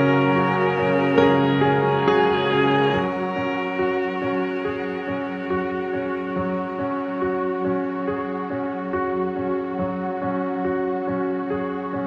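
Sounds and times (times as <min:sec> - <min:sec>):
slow gentle instrumental music: 0:00.0 - 0:12.0.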